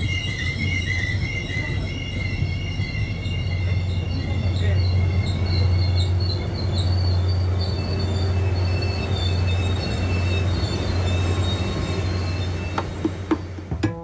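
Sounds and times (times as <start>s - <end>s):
high-pitched wheel squeals: 0.0s - 13.4s
train hum and rumble: 0.0s - 14.0s.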